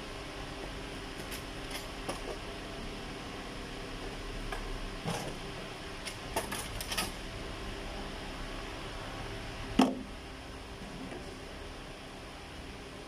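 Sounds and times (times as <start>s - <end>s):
workshop background hum: 0.0s - 13.0s.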